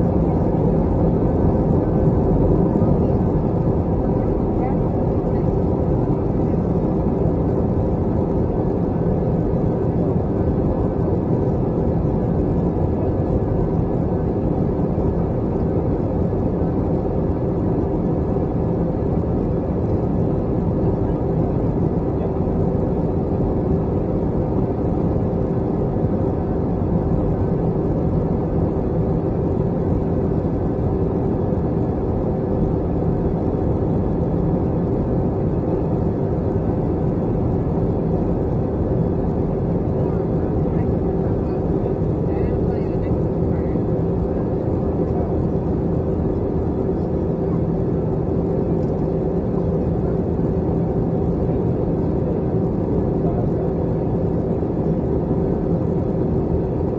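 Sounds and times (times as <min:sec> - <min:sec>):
airliner cabin engine noise: 0:00.0 - 0:56.9.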